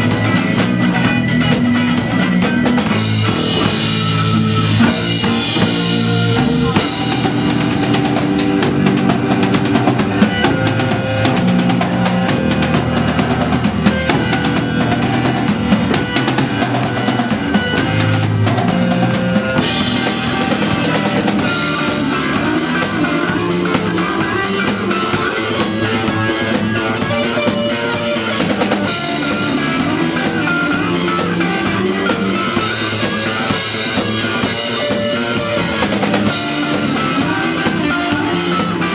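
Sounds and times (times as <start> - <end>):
bass drum and snare: 0.0 - 38.9
rock band playing live: 0.0 - 38.9.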